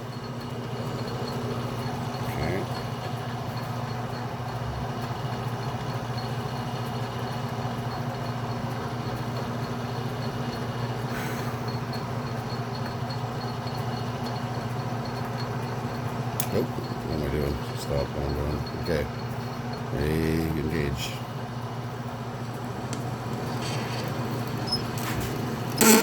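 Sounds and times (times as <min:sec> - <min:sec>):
metal lathe motor humming: 0:00.0 - 0:26.0.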